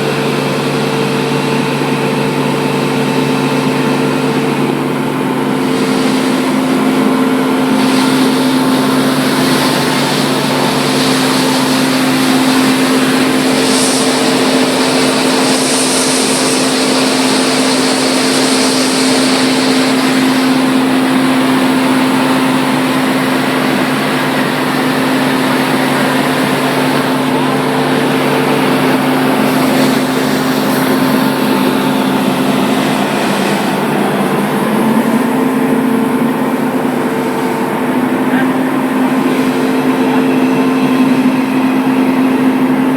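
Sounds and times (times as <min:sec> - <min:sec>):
belt sander motor hum: 0:01.5 - 0:42.9
sanding hiss: 0:04.5 - 0:42.4.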